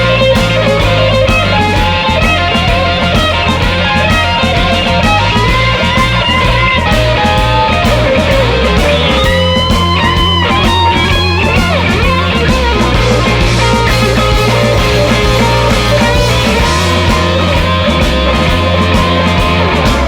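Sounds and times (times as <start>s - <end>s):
bass guitar: 0.0s - 20.0s
drums: 0.0s - 20.0s
lead electric guitar bending lines: 0.0s - 20.0s.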